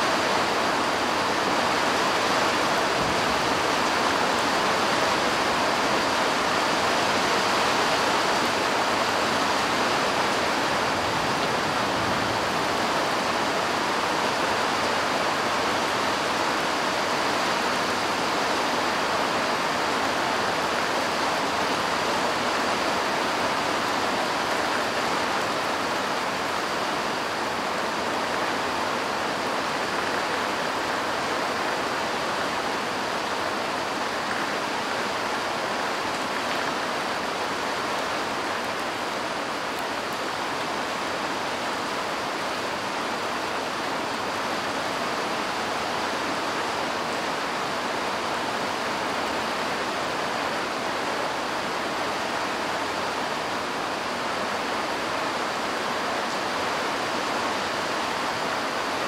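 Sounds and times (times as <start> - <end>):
rain falling on cars and ground: 0.0 - 59.0.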